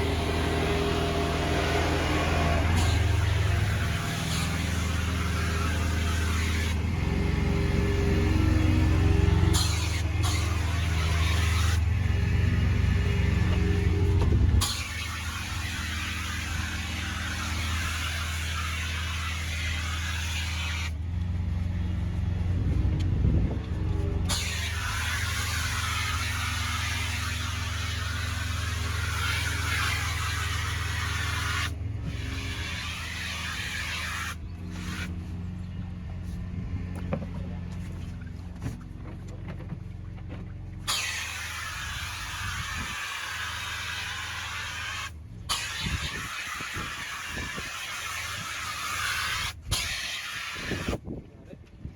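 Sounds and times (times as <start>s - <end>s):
spray lance hissing: 0.0s - 21.0s, 24.3s - 35.1s, 40.9s - 51.0s
pressure washer engine running: 0.0s - 22.4s, 23.9s - 35.2s, 40.8s - 51.0s.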